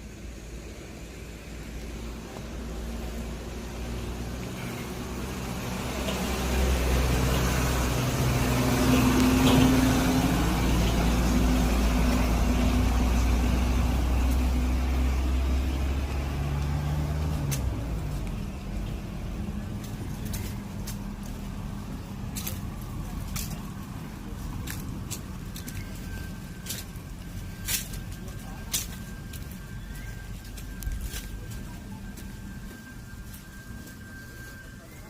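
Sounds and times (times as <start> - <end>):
vehicle engine passing: 0.0 - 35.0.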